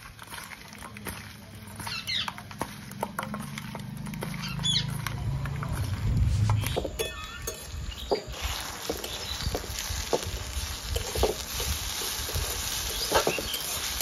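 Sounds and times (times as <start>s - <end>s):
spatula stirring in a wok: 0.0s - 14.0s.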